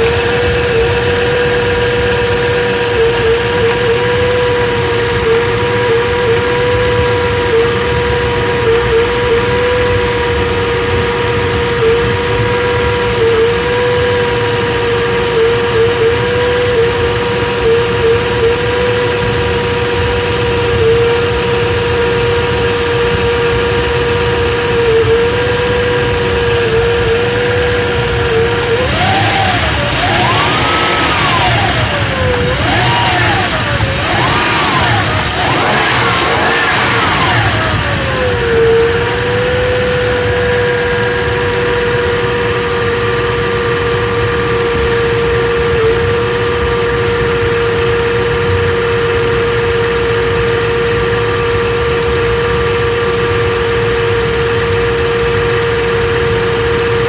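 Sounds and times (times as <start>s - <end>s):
car engine idling with whine: 0.0s - 57.0s
engine revving: 0.0s - 57.0s.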